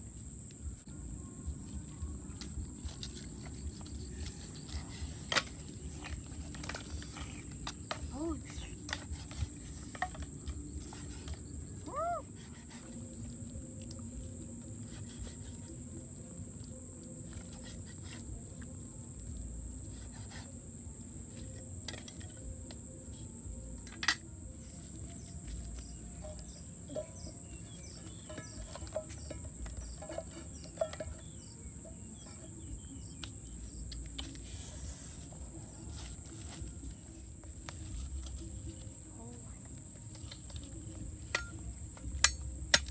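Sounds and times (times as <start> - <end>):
insect drone: 0.0 - 42.9.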